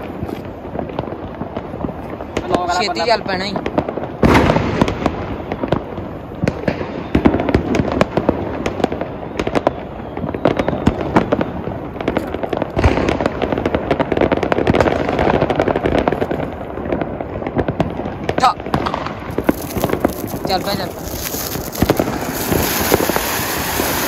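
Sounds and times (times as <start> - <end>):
firecrackers cracking: 0.0 - 24.0.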